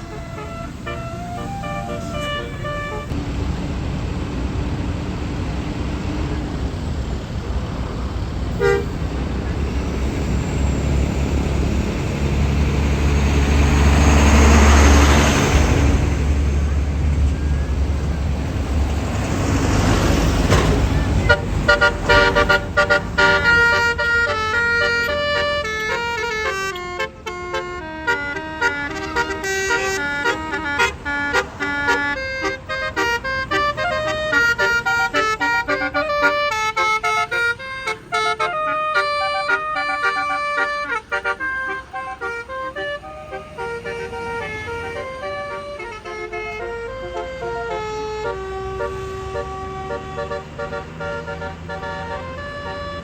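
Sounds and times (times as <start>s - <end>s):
bus musical horn tune: 0.0s - 3.2s, 8.5s - 53.0s
bus engine passing: 0.0s - 53.0s.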